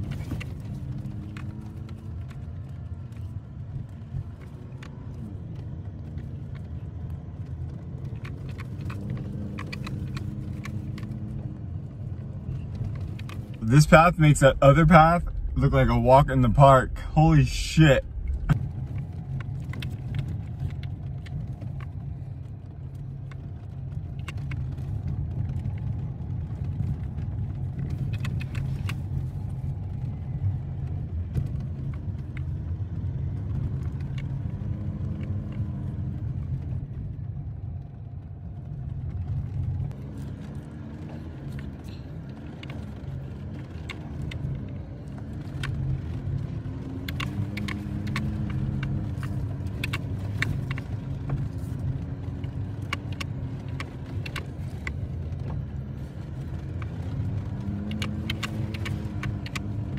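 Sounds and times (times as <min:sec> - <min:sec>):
vehicle rumbling on dirt trail: 0:00.0 - 0:59.9.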